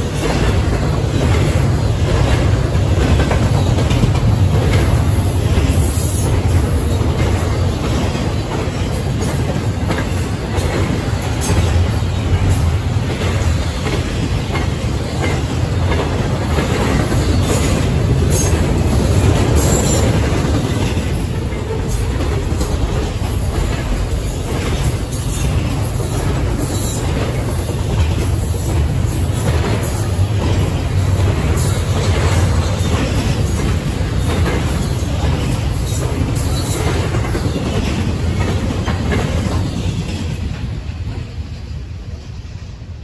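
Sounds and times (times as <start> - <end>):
wheels clicking over rail joints: 0.0 - 41.3
freight train rumbling past: 0.0 - 43.0.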